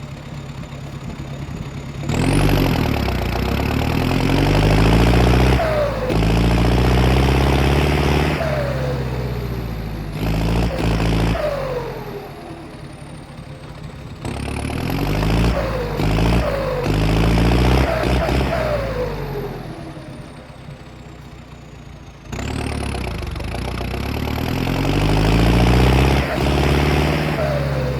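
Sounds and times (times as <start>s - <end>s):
tractor diesel engine revving: 0.0s - 27.9s.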